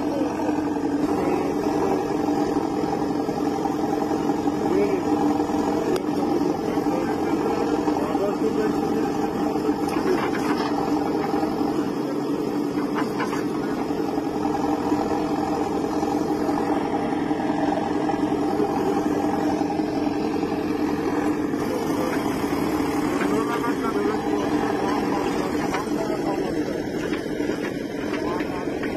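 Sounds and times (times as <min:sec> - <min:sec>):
diesel engines running: 0:00.0 - 0:28.9.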